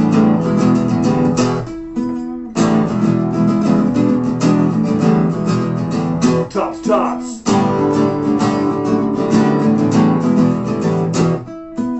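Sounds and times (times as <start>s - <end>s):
acoustic guitars strumming: 0.0s - 11.9s.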